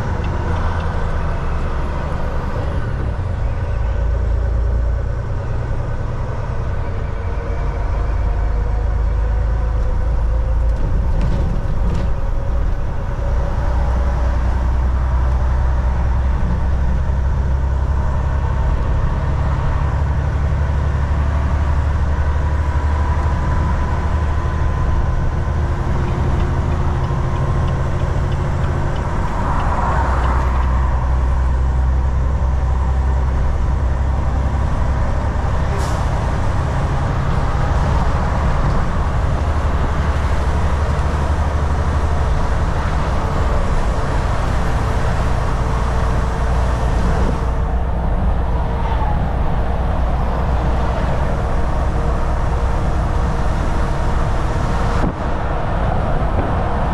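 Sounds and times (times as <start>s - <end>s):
truck diesel engine running: 0.0s - 56.9s
tyre and road noise: 0.0s - 56.9s.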